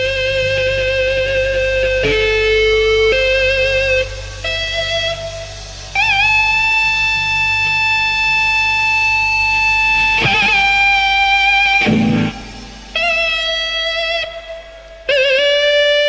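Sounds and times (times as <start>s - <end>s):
slow lead guitar melody: 0.0s - 16.0s.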